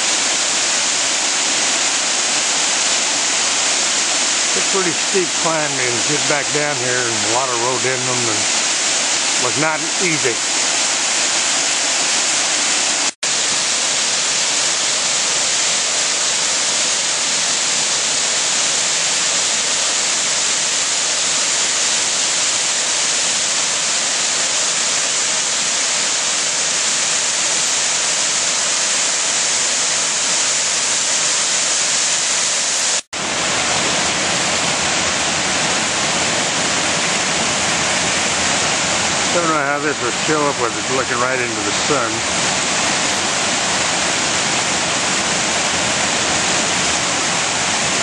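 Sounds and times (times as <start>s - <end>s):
waterfall rushing over rocks: 0.0s - 48.0s.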